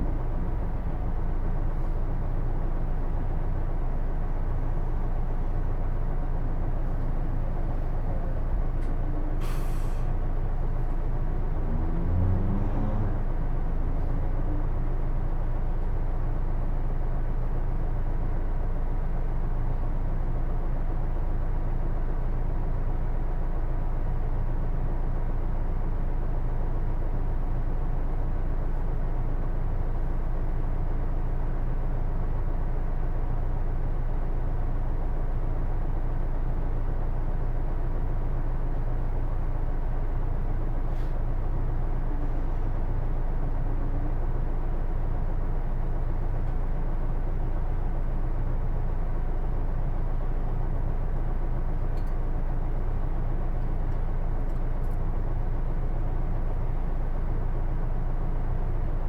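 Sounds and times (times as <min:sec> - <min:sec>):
bus engine running: 0:00.0 - 0:59.0.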